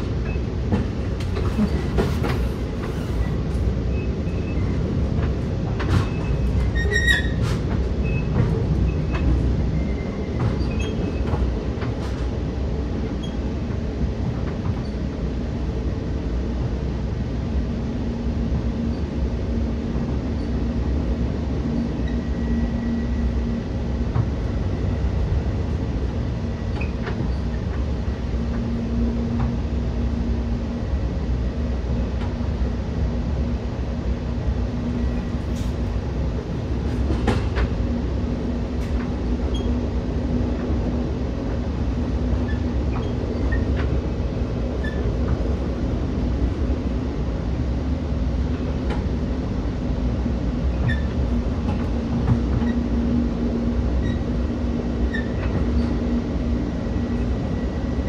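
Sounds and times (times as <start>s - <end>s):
train coach rumbling on track: 0.0s - 58.0s.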